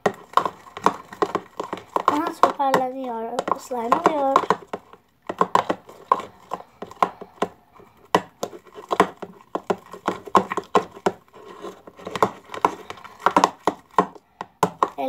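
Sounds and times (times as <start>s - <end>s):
slime squelching while stirred: 0.0s - 15.0s.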